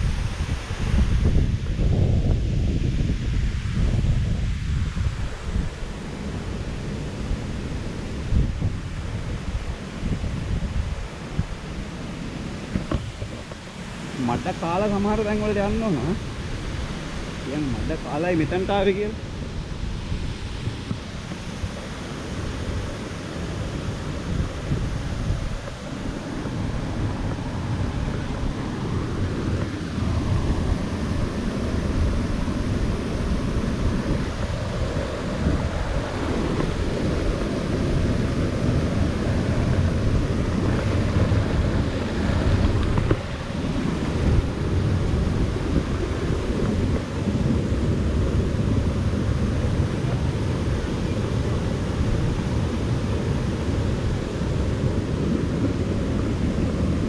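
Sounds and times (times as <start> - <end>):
waterfall rushing: 4.4 - 57.0.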